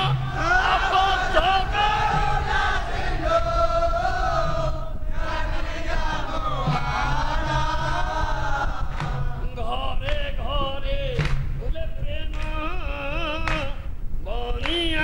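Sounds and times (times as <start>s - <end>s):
low musical accompaniment: 0.0s - 14.9s
chorus singing devotional song: 0.0s - 15.0s.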